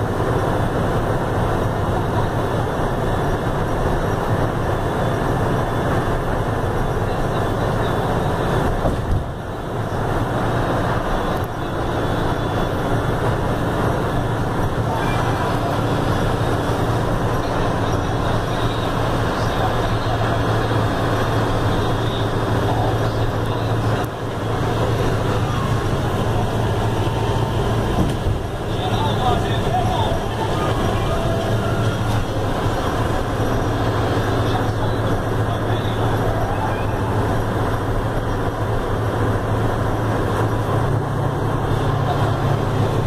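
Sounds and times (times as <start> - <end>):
bus engine drone: 0.0 - 43.0
road and tyre noise: 0.0 - 43.0.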